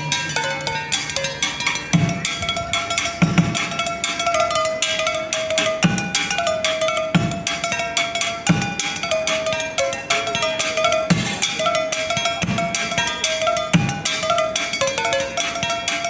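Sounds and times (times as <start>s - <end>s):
held melody line: 0.0s - 16.0s
low drum beats: 0.0s - 16.0s.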